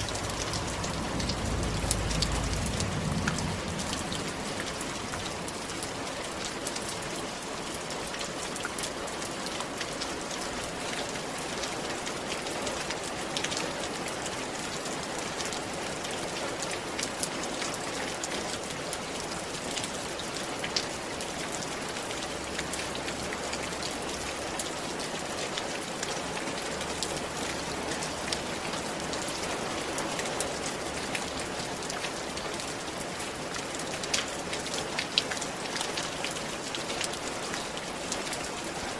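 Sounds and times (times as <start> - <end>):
rain falling on a roof: 0.0 - 38.9.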